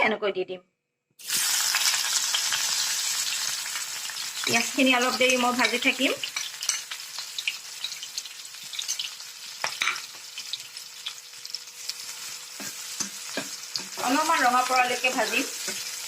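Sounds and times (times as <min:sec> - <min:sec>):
onions sizzling in oil: 0:01.2 - 0:16.0.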